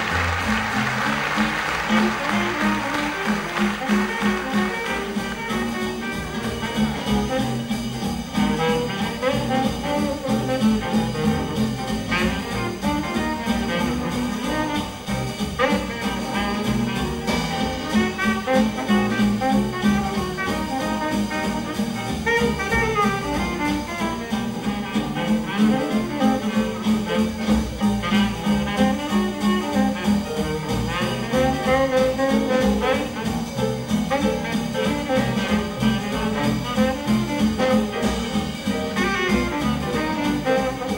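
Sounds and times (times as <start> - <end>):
double bass: 0.0 - 40.9
drums: 0.0 - 40.9
rhythm guitar: 0.0 - 40.9
tenor saxophone solo: 0.0 - 40.9.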